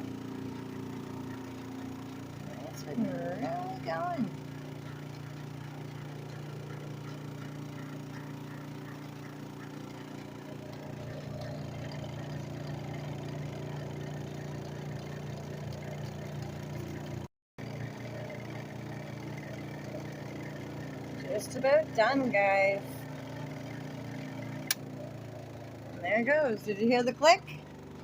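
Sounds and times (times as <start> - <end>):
spin dryer motor hum: 0.0 - 28.0.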